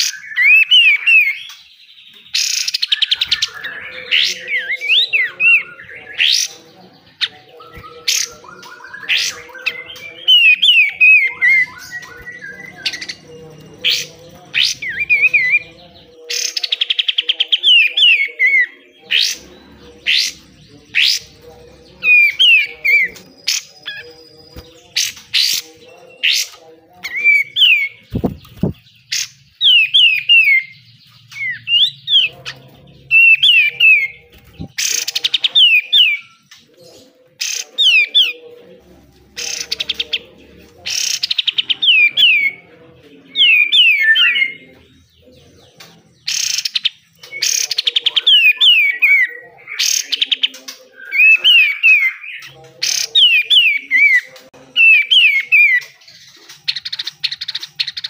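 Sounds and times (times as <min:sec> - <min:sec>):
songbird singing harsh trills: 0:00.0 - 0:38.6, 0:39.2 - 0:58.0.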